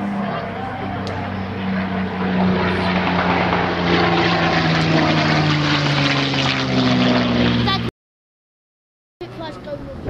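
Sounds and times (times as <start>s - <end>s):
propeller plane flying overhead: 0.0s - 7.9s, 9.2s - 10.0s.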